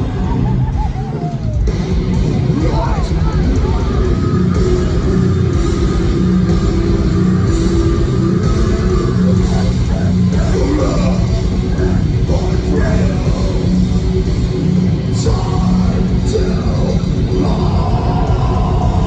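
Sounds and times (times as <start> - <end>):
bass guitar: 0.0 - 19.0
drums: 0.0 - 19.0
heavy distorted guitars: 0.0 - 19.0.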